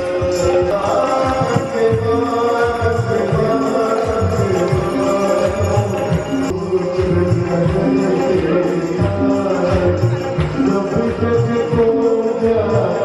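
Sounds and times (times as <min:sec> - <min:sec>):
devotional chanting and singing: 0:00.0 - 0:13.0
drums beating: 0:00.4 - 0:13.0.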